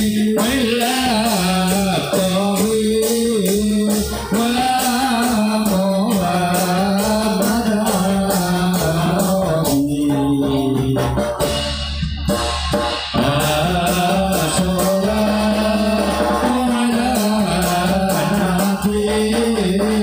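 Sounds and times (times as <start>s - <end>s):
steady percussion beat: 0.0s - 20.0s.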